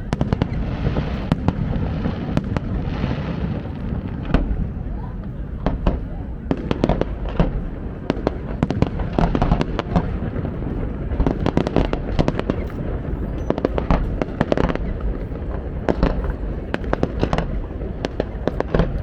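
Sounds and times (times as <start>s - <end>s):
fireworks bangs and crackling pops: 0.0s - 19.0s
steady low rumble: 0.0s - 19.0s.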